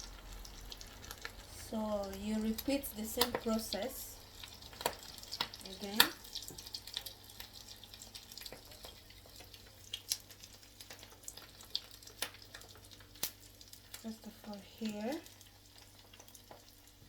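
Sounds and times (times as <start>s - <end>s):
oil popping: 0.0s - 14.1s
food sizzling in hot oil: 0.0s - 17.0s.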